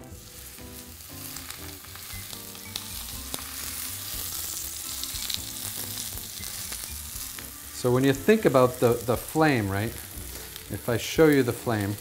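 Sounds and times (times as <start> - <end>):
oil sizzling in a skillet: 0.0 - 12.0.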